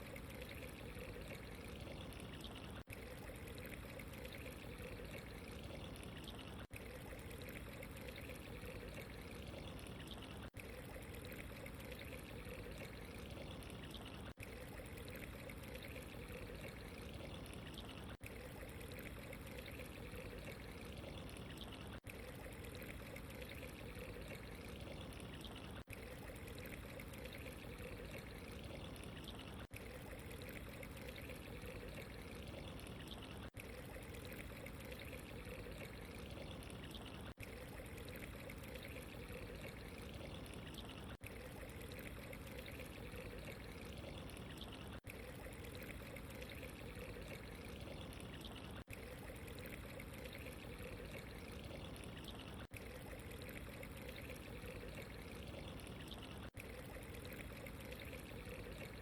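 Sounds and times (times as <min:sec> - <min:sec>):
water trickling and pouring: 0:00.0 - 0:59.0.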